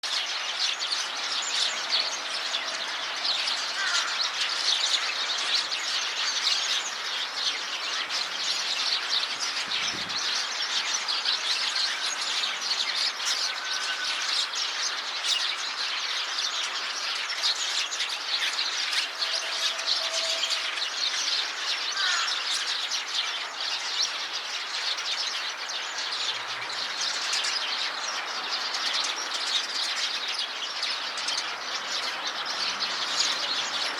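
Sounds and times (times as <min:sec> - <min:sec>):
flock of sparrows chirping: 0:00.0 - 0:33.9.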